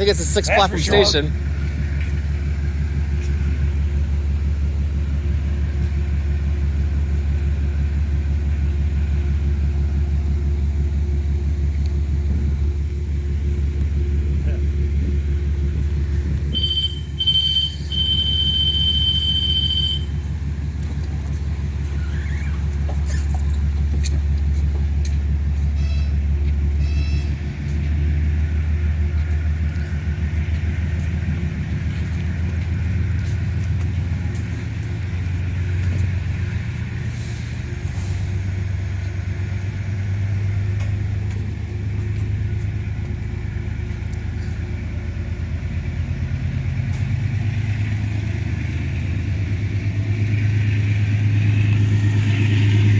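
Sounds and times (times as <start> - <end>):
diesel train engine drone: 0.0 - 52.9.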